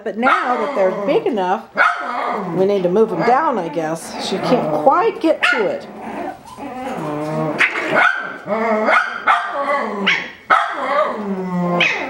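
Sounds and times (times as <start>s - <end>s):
puppies barking whiny: 0.2s - 12.0s.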